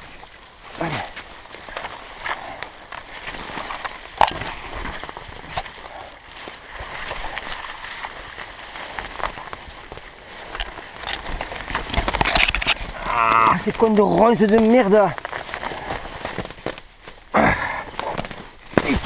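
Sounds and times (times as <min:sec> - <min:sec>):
branches brushing past: 0:00.0 - 0:19.0
dry leaf litter crunching: 0:00.0 - 0:19.0.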